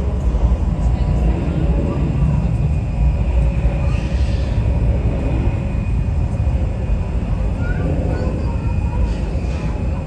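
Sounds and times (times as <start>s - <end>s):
faint high engine whine: 0.0s - 10.0s
jet engines rumbling: 0.0s - 10.0s.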